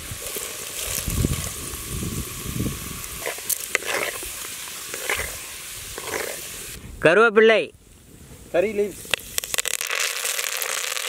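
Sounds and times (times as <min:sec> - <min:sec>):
seeds sizzling in hot oil: 0:00.0 - 0:06.8, 0:08.9 - 0:11.0
sharp crackles: 0:00.0 - 0:06.8, 0:08.6 - 0:11.0.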